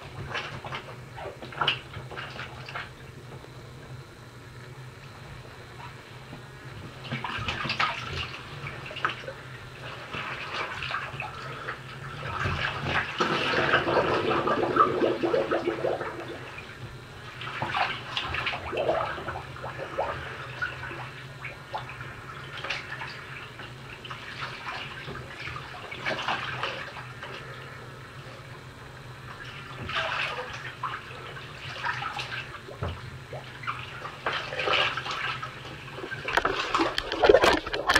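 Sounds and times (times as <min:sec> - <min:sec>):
steady low hum: 0:00.0 - 0:37.9
water sloshing in bathtub: 0:00.0 - 0:37.9.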